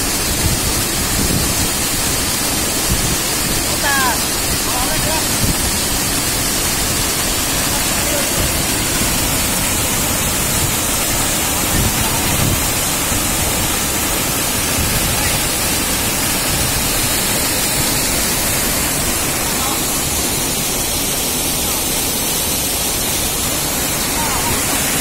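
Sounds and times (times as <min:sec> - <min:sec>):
water rushing and splashing: 0:00.0 - 0:25.0.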